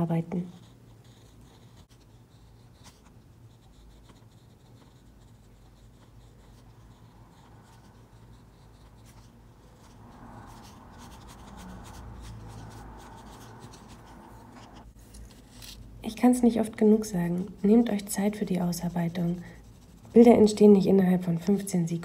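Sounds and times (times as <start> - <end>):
pencil scratching on paper: 0.0 - 21.9
steady low hum: 0.0 - 22.0.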